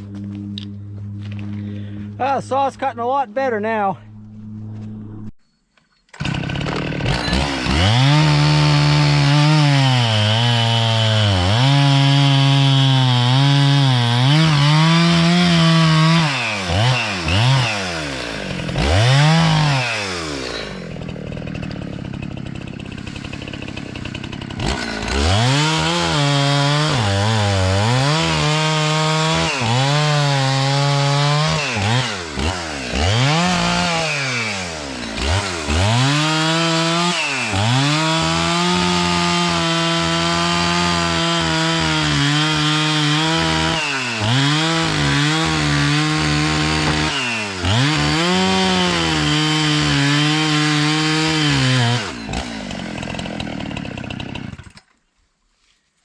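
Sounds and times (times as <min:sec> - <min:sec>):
chainsaw cutting wood: 0:06.1 - 0:55.1.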